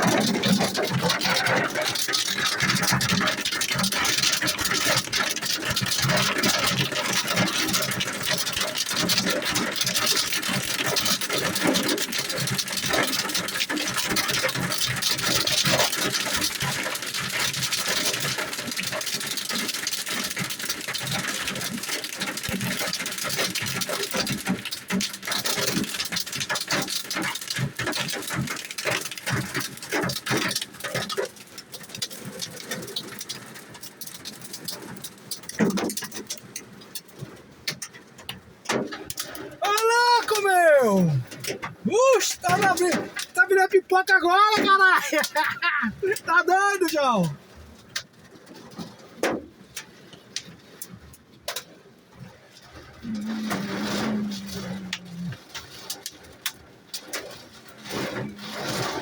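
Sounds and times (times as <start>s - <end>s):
hailstones clattering: 0.0s - 59.0s.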